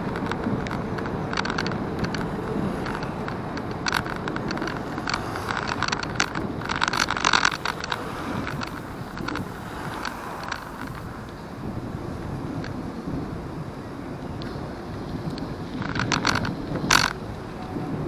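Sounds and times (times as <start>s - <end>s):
clicks and rattles from bumps: 0.0s - 11.4s, 14.4s - 17.8s
wind rushing over microphone: 0.0s - 18.0s.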